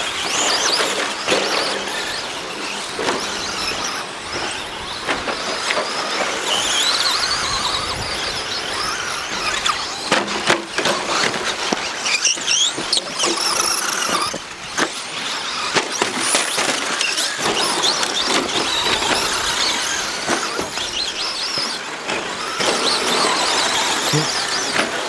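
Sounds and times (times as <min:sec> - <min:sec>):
rc truck motors whining: 0:00.0 - 0:25.0.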